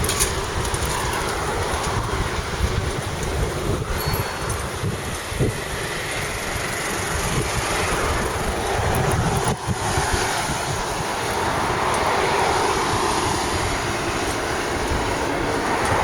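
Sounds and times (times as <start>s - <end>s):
road and riding noise: 0.0s - 16.0s
wind buffeting microphone: 0.0s - 16.0s.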